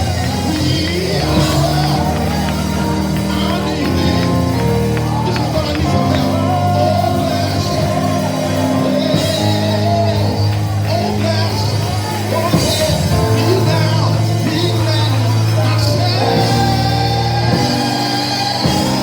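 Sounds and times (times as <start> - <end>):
person singing: 0.0 - 19.0
sustained keyboard chords: 0.0 - 19.0.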